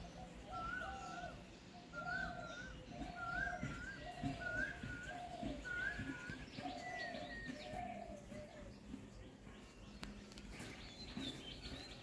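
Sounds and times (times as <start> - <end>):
birds whistling: 0.0 - 12.0.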